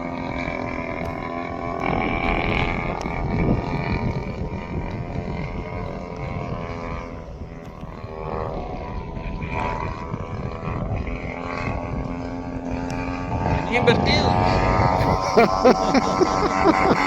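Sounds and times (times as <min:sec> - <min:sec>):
model plane engine buzzing: 0:00.0 - 0:17.0.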